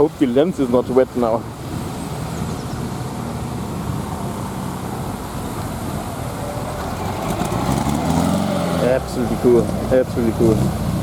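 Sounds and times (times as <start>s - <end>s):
car engine idling: 0.0s - 11.0s
steady hiss: 0.0s - 11.0s.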